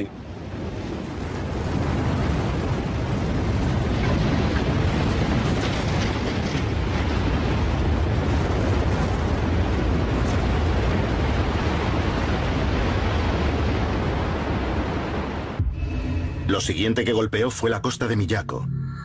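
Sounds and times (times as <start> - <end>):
floodwater rumbling roar: 0.0 - 18.4.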